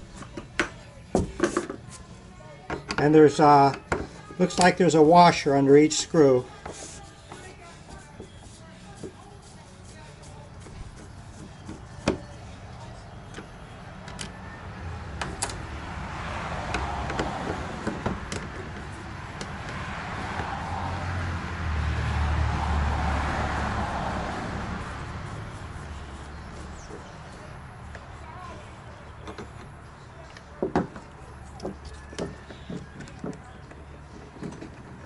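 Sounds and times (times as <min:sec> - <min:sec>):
passing road vehicle: 0:01.9 - 0:35.0.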